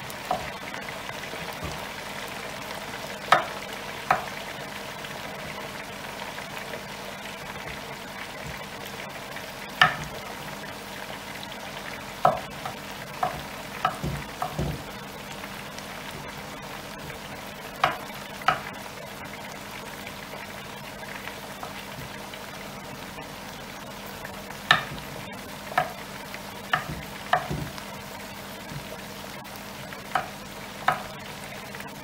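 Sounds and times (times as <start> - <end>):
oil popping and crackling: 0.0 - 32.0
oil sizzling in deep fryer: 0.0 - 32.0.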